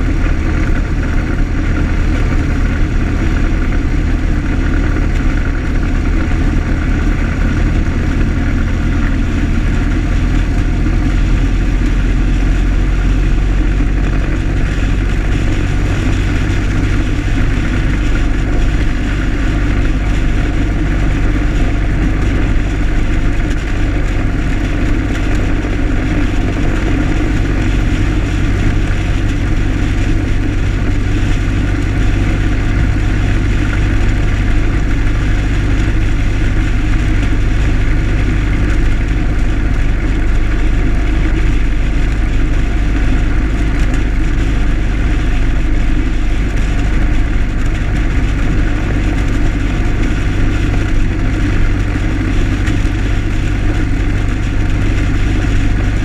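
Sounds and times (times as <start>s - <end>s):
old car engine running: 0.0s - 56.0s
road and wind noise: 0.0s - 56.0s.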